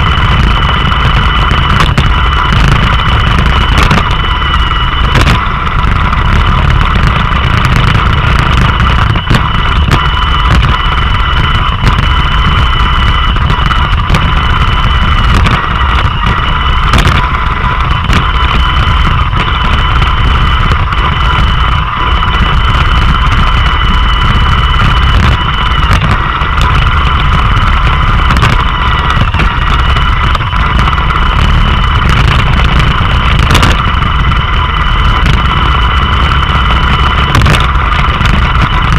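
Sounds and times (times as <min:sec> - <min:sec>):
robot vacuum motor whine: 0:00.0 - 0:38.9.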